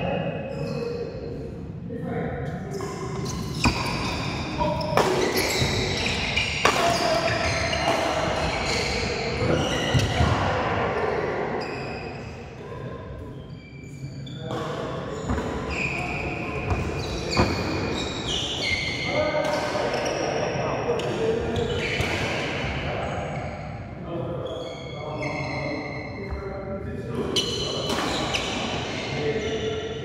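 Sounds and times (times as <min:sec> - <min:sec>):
shoes squeaking on court floor: 0:02.7 - 0:12.3, 0:13.3 - 0:20.4, 0:21.0 - 0:23.7, 0:24.4 - 0:26.5, 0:27.2 - 0:30.0.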